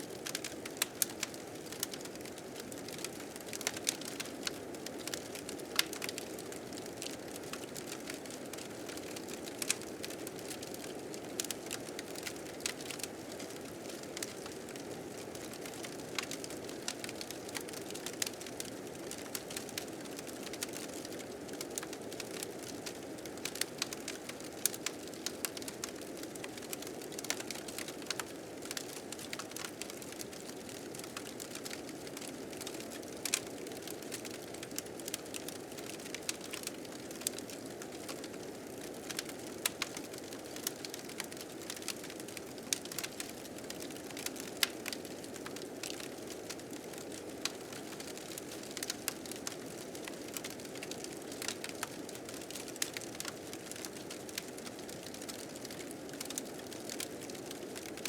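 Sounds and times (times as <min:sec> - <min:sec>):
fire crackling and popping: 0:00.1 - 0:58.0.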